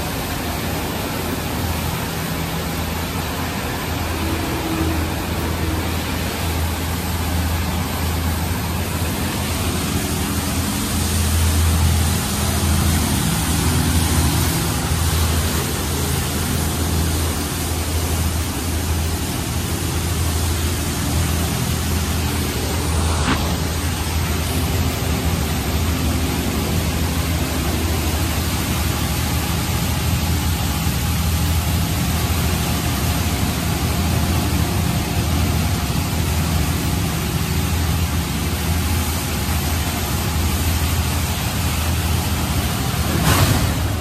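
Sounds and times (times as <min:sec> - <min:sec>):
high-pressure water spray hissing: 0:00.0 - 0:44.0
low machine hum: 0:00.0 - 0:44.0.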